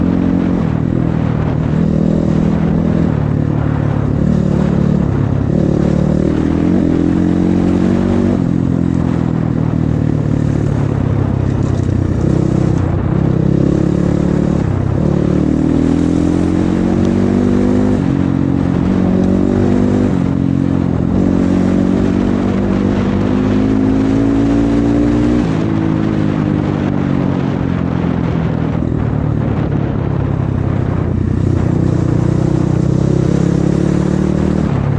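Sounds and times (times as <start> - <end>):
motorcycle engines accelerating: 0.0 - 34.9.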